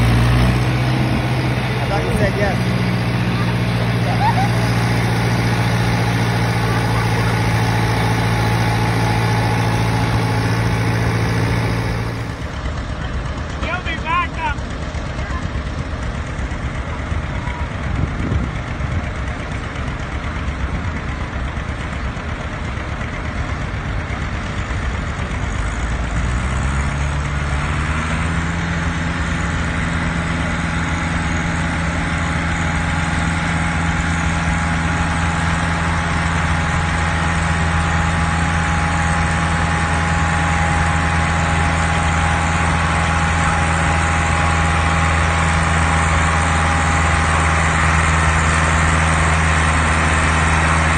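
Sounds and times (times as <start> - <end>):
tractor engine rumbling and revving: 0.0 - 50.9.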